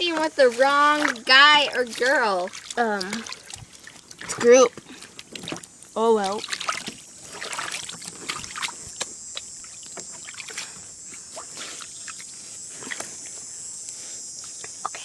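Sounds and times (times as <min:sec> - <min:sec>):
small splashes and clicks: 0:00.0 - 0:13.1
water sloshing and dribbling: 0:00.0 - 0:13.1.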